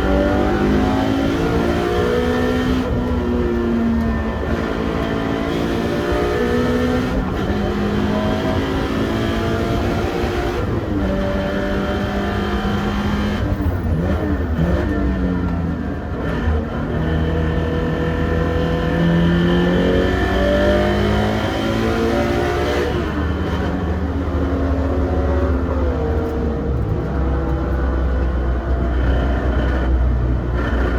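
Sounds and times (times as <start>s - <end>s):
car engine revving through gears: 0.0s - 30.9s.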